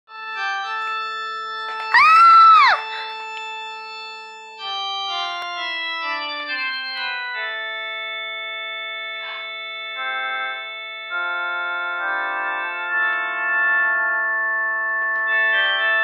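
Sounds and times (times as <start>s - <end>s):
electronic keyboard organ notes: 0.1s - 16.0s.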